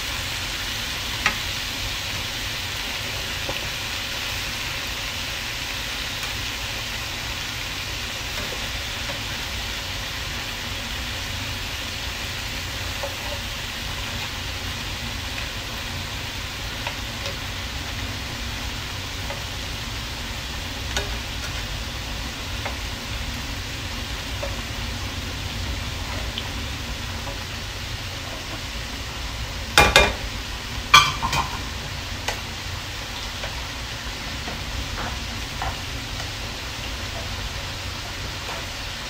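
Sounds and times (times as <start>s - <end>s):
shrimp sizzling in a frying pan: 0.0s - 39.0s.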